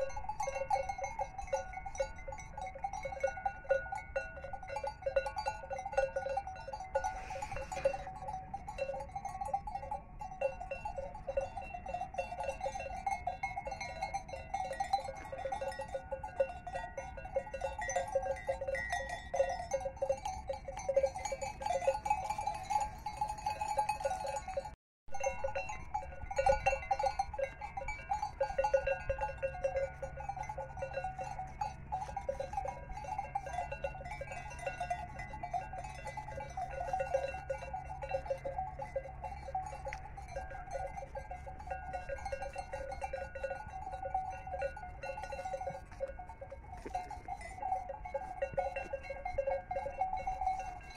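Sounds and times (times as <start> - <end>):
sheep bells clanking: 0.0 - 50.9.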